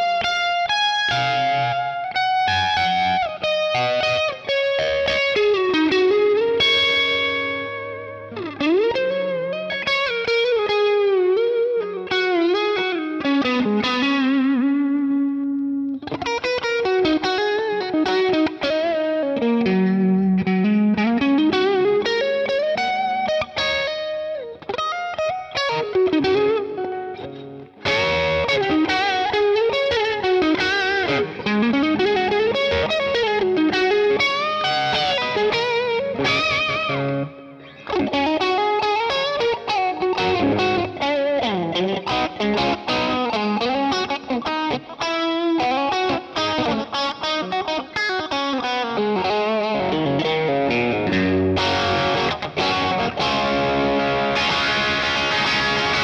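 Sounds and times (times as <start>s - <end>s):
distorted electric guitar lead: 0.0s - 56.0s.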